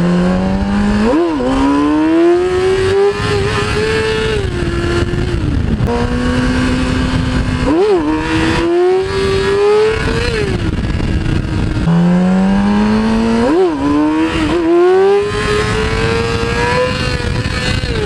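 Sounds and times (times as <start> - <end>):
motorcycle engine revving: 0.0 - 18.0
wind rushing over microphone: 0.0 - 18.0.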